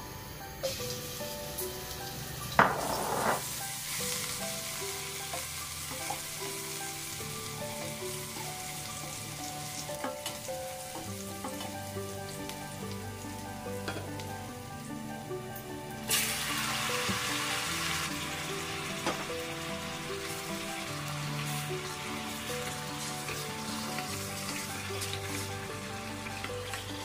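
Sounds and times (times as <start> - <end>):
paste sizzling in hot oil: 0.2 - 27.0.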